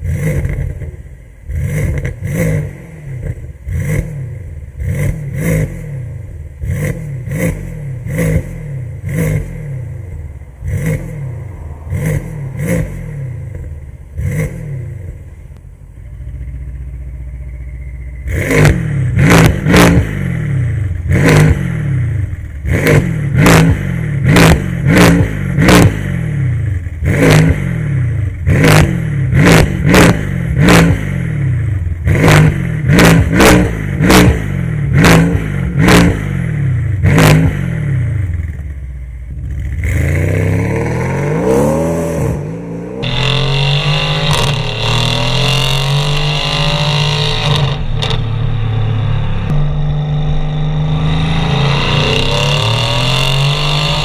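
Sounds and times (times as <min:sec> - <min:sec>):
car driving off: 0:00.0 - 0:54.0
car engine revving: 0:00.0 - 0:54.0.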